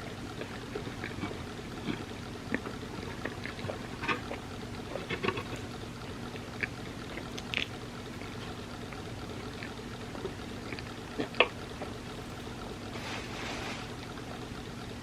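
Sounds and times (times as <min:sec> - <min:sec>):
wet chewing and mouth sounds: 0:00.0 - 0:14.3
steady low hum: 0:00.0 - 0:15.0.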